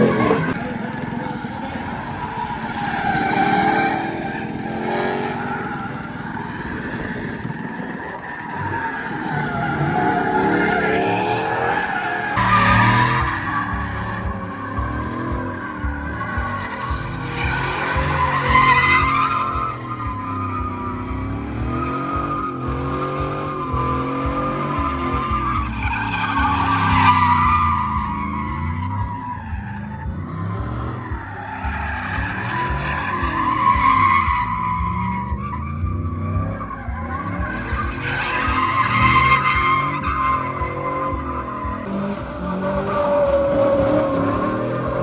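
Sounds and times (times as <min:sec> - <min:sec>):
tires squealing: 0:00.0 - 0:45.0
truck engine revving: 0:00.0 - 0:45.0.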